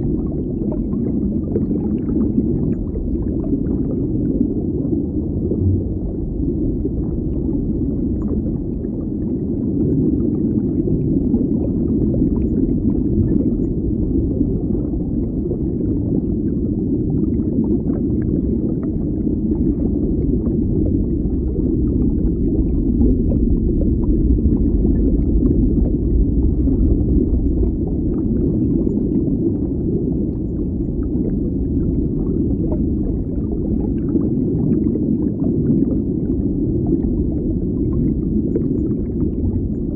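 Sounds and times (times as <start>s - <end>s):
deep rumbling underwater wash: 0.0s - 39.9s.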